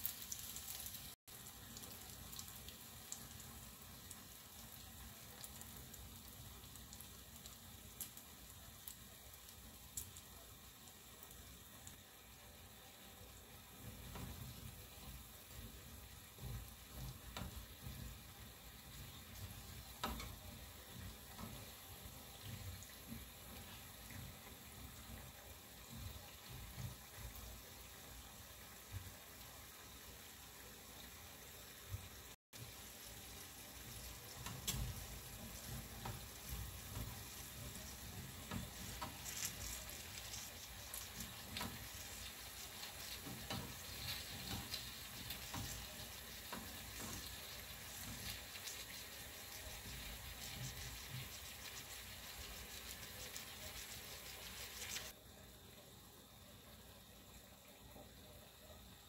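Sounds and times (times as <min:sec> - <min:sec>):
food sizzling in hot oil: 0:00.0 - 0:55.6.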